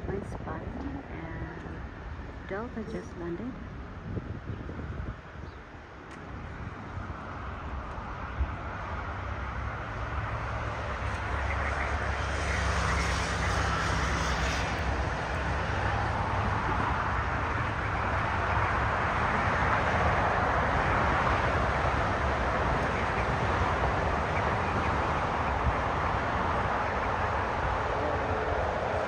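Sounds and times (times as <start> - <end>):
jet airliner engine noise: 0.0 - 29.0.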